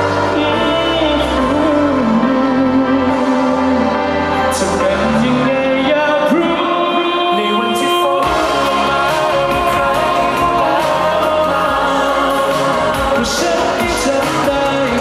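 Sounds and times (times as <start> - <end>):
instrumental backing: 0.0 - 15.0
man singing: 0.0 - 15.0.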